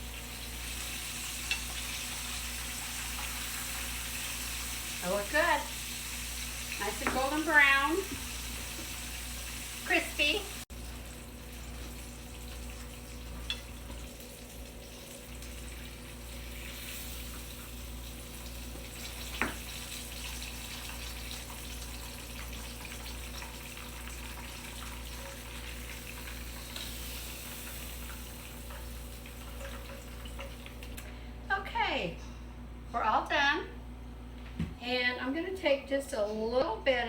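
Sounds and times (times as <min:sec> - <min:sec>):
fish sizzling in a frying pan: 0:00.0 - 0:30.9.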